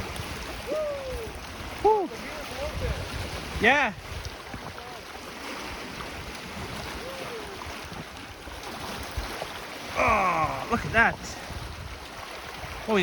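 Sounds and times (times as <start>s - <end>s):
lake water lapping on rocks: 0.0s - 13.0s
wind buffeting microphone: 0.0s - 13.0s.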